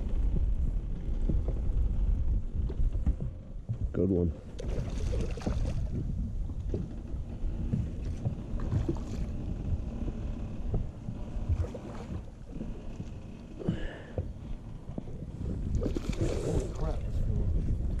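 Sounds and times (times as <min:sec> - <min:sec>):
water lapping against boat: 0:00.0 - 0:18.0
wind rumbling on microphone: 0:00.0 - 0:18.0.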